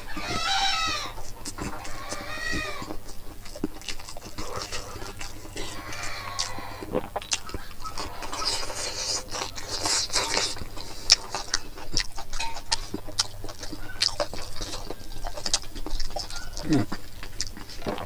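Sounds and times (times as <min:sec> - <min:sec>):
close-up chewing: 0:00.0 - 0:18.0
wet mouth clicks and smacks: 0:02.8 - 0:18.0.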